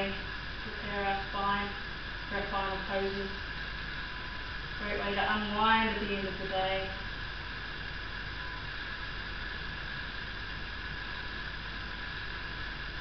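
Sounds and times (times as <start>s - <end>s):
low hum: 0.0s - 13.0s
steady background hiss: 0.0s - 13.0s.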